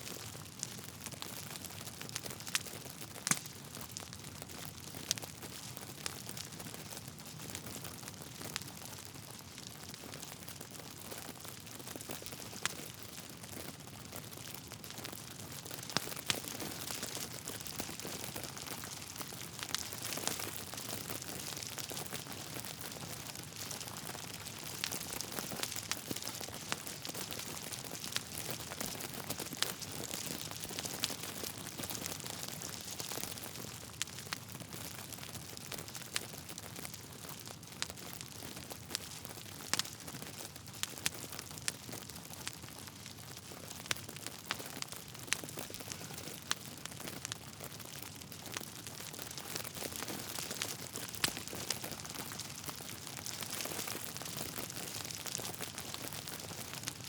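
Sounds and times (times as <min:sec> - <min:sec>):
wood fire crackling: 0:00.1 - 0:57.0.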